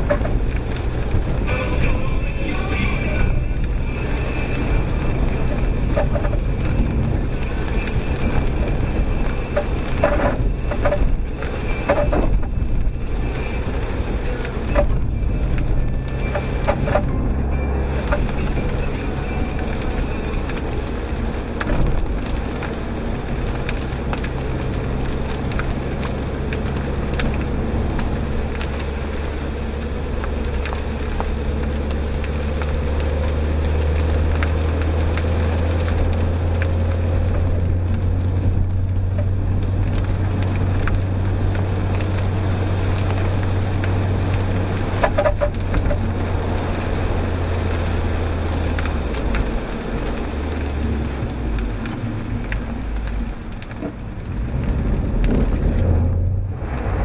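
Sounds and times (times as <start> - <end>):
car engine running: 0.0 - 57.0
heavy rain: 0.0 - 57.0
tyre spray on flooded road: 0.0 - 57.0.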